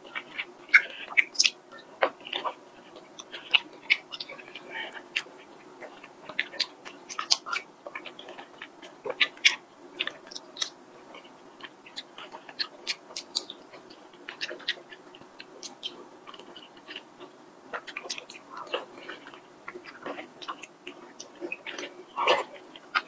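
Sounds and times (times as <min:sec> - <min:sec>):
chewing and mouth sounds: 0:00.0 - 0:23.0.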